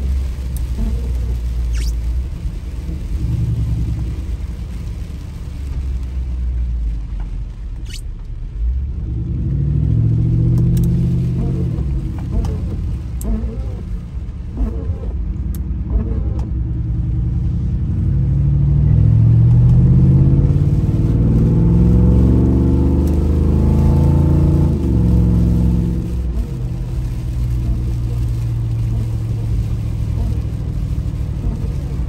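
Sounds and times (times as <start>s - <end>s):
engine accelerating and shifting: 0.0s - 32.0s.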